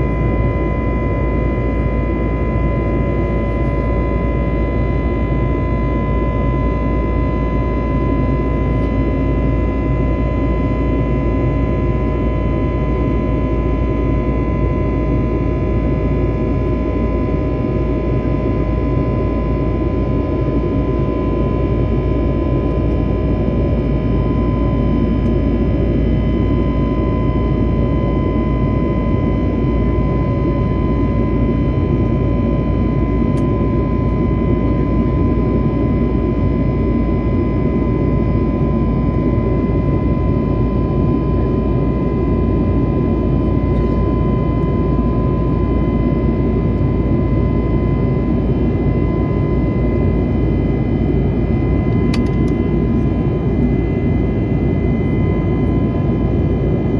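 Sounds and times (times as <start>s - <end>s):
constant high whine: 0.0s - 56.9s.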